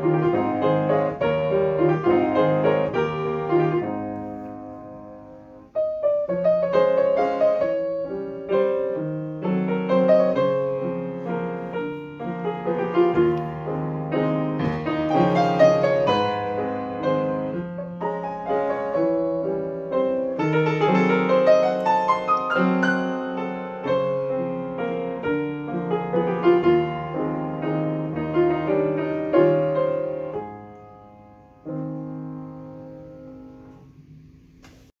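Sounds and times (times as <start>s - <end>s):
upright piano playing a waltz: 0.0s - 34.5s.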